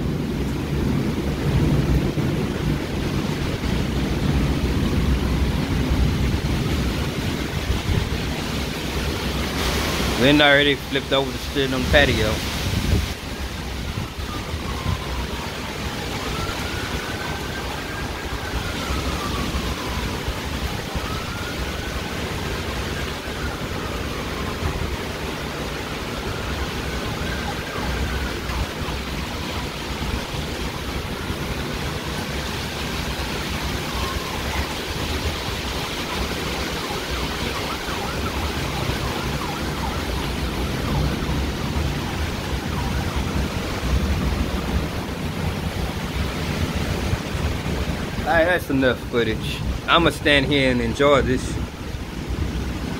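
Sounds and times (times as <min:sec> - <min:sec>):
faint siren wailing: 0:00.0 - 0:52.9
gusting wind: 0:00.0 - 0:52.9
heavy rain: 0:00.0 - 0:52.9.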